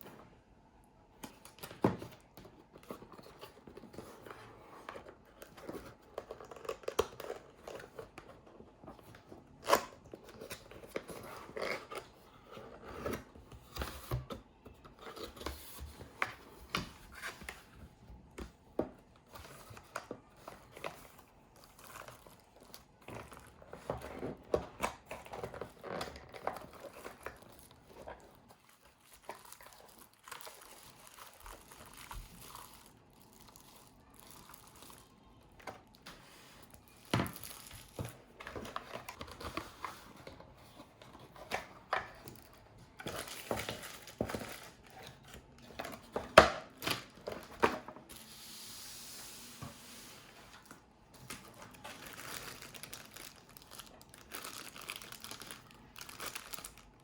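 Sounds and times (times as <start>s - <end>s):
plastic and paper crinkling: 1.3s - 48.3s, 50.2s - 57.0s.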